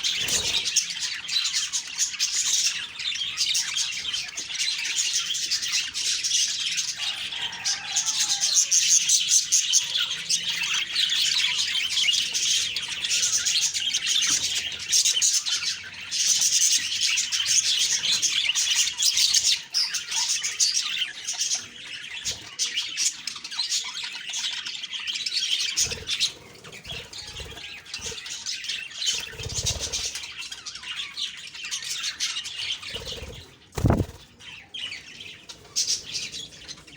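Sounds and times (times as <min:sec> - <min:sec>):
budgerigars chattering and chirping: 0:00.0 - 0:36.9.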